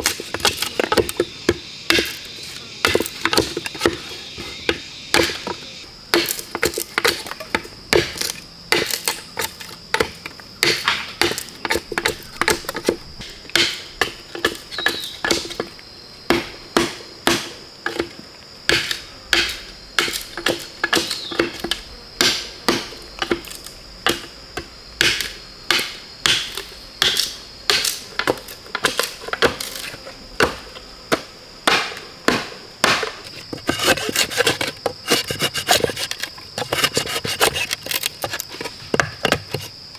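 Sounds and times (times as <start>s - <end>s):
hand tool chopping wood: 0.0s - 15.7s, 16.3s - 39.7s.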